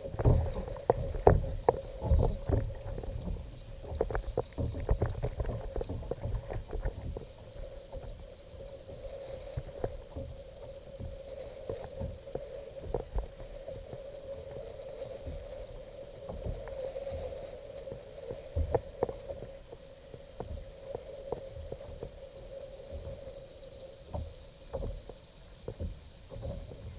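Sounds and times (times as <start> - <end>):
water sloshing against hull: 0.0 - 26.9.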